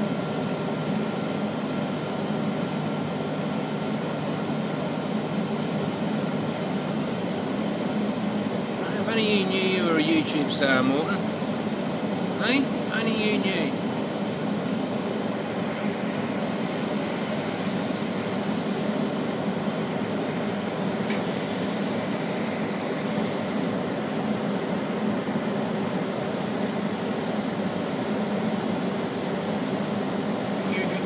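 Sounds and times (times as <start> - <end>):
steady hum with hiss: 0.0 - 31.0.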